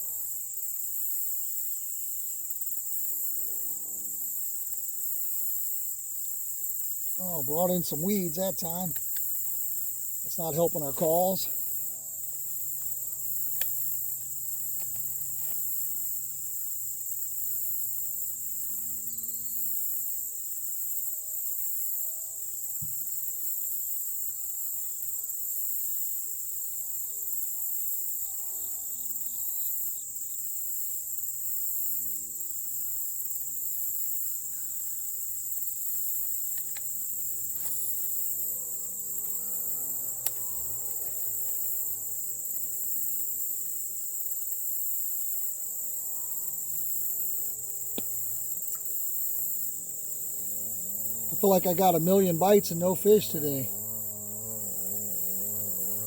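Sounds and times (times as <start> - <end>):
insects chorus shrill drone: 0.0 - 56.0.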